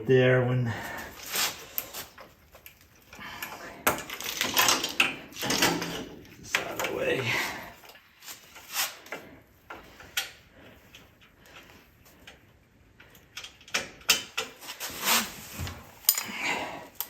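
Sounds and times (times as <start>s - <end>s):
tools and parts clattering: 1.2s - 12.4s, 13.0s - 17.0s.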